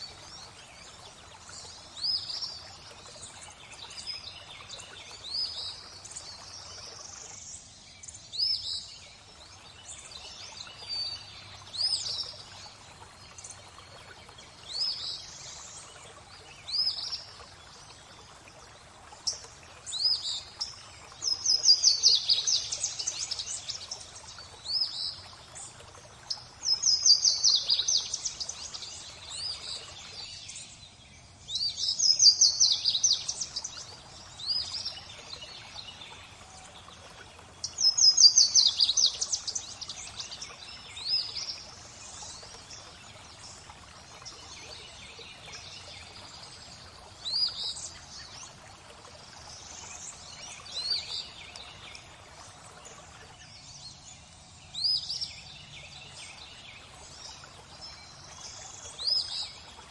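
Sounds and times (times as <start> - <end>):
flowing water: 0.0 - 59.9
songbirds singing: 0.0 - 59.9.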